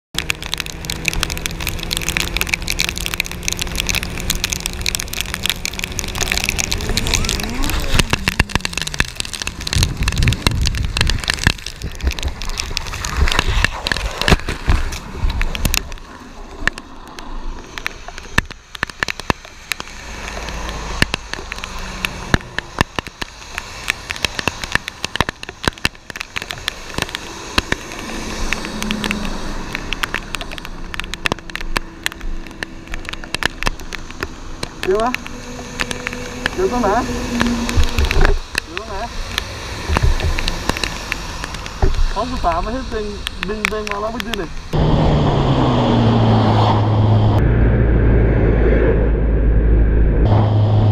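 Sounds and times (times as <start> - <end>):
rain pattering on camera: 0.1 - 44.8
heavy rain: 0.2 - 47.4.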